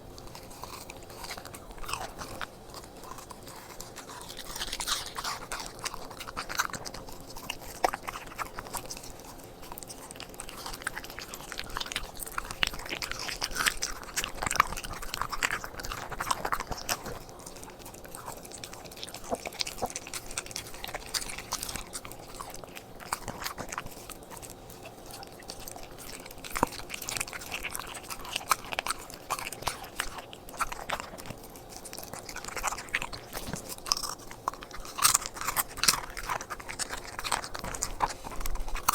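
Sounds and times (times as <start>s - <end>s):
dog chewing and crunching food: 0.0s - 38.9s.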